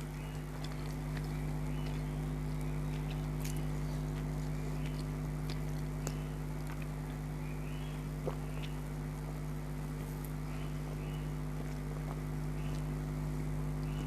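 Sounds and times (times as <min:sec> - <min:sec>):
chewing and crunching: 0:00.0 - 0:14.0
electrical hum: 0:00.0 - 0:14.0.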